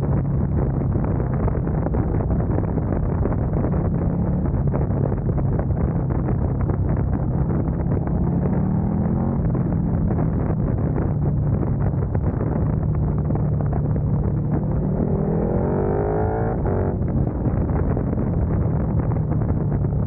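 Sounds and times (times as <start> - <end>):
motorcycle engine cruising: 0.0 - 20.0
wind noise on microphone: 0.0 - 20.0.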